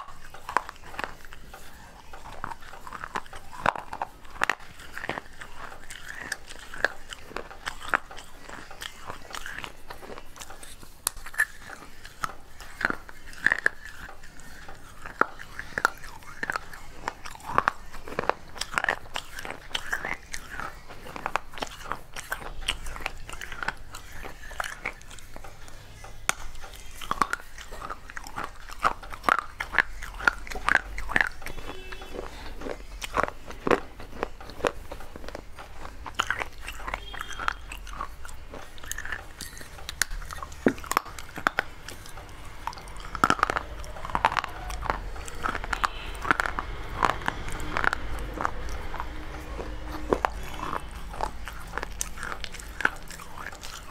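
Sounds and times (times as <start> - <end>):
chewing crunchy clay: 0.0 - 53.9.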